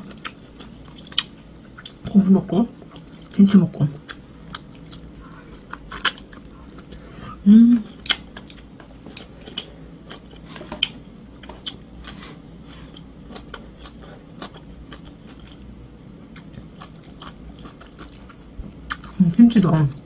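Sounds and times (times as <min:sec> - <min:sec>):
person chewing with wet crunches: 0:00.0 - 0:19.2.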